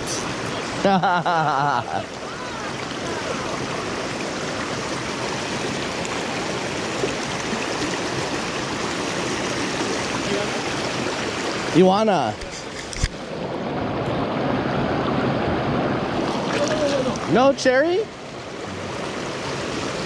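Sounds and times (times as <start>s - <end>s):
stream water rushing over rocks: 0.0s - 20.0s.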